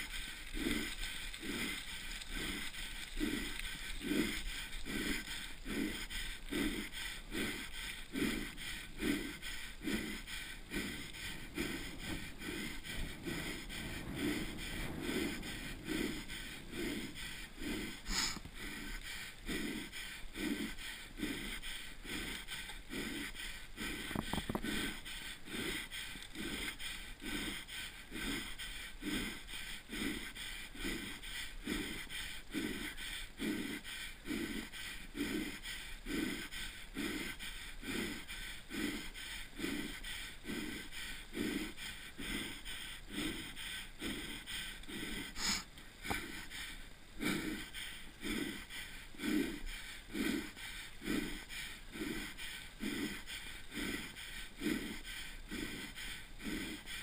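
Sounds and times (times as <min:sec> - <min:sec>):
heavy rhythmic breathing: 0:00.0 - 0:57.0
wind hiss: 0:00.0 - 0:57.0.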